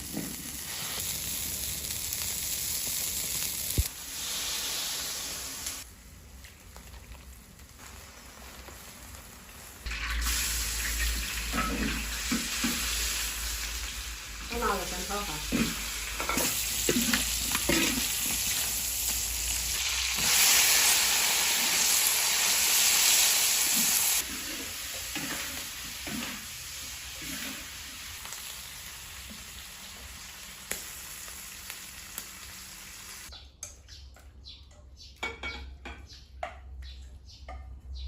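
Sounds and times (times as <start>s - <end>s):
food sizzling in hot pan: 0.0s - 33.3s.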